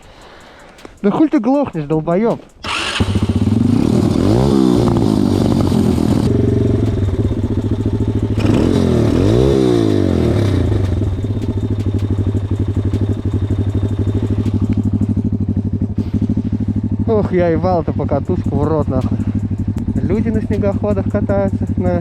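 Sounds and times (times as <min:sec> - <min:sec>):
motorbike engine revving: 0:02.6 - 0:22.0.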